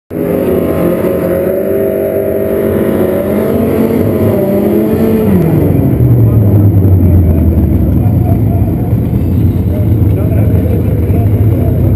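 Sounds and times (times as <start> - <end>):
car engine revving high: 0.1 - 11.9.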